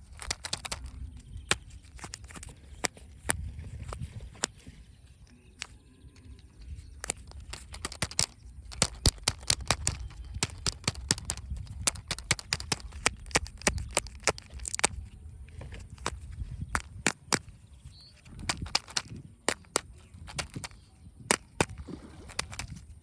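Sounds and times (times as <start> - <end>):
plastic toys clicking and tapping: 0.0 - 4.7, 6.8 - 22.8.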